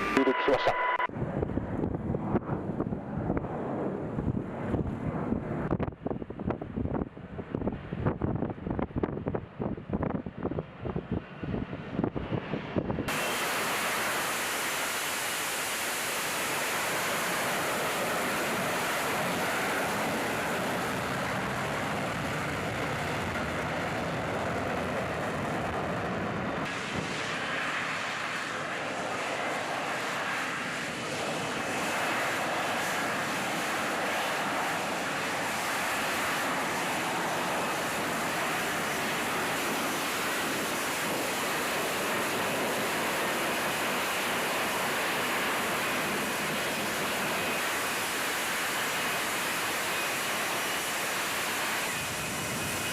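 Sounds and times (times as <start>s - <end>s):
jet engine roar: 0.0s - 52.9s.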